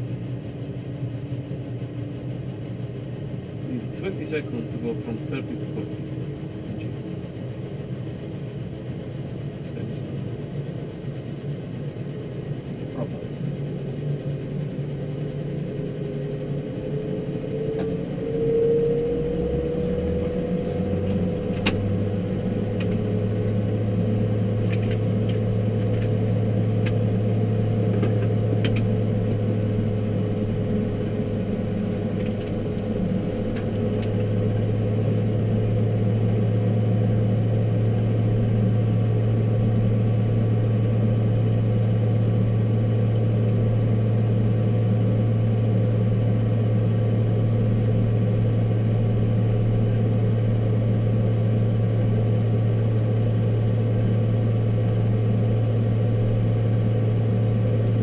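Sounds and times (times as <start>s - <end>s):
propeller drone: 0.0s - 58.0s
turbine whine: 0.0s - 58.0s.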